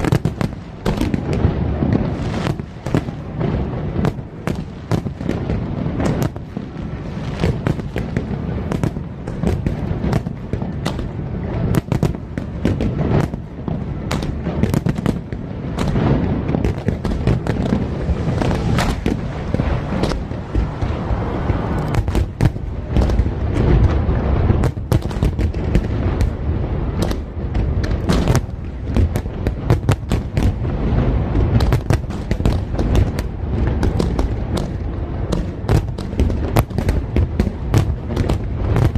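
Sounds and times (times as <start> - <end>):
fireworks bangs and crackles: 0.0 - 38.9
low rumble of booms: 0.0 - 38.9.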